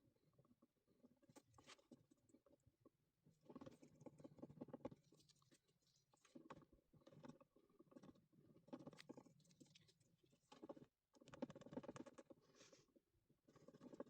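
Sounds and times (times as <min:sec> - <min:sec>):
faint clicking and scratching: 0:00.0 - 0:14.0.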